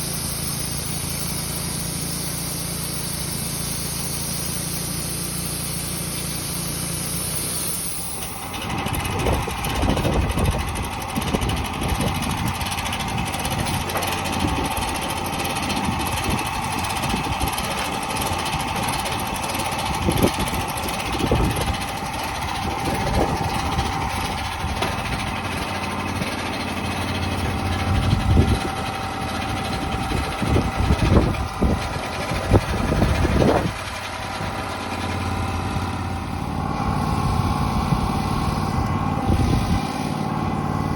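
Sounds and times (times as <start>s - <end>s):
band saw blade whining: 0.0s - 40.9s
sawmill engine running: 0.0s - 40.9s.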